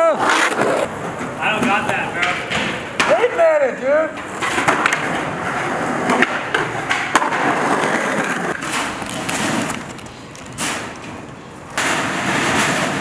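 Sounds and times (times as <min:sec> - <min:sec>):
skateboard wheels rolling on concrete: 0:00.0 - 0:13.0
skateboard clacks: 0:00.2 - 0:03.5, 0:04.1 - 0:13.0.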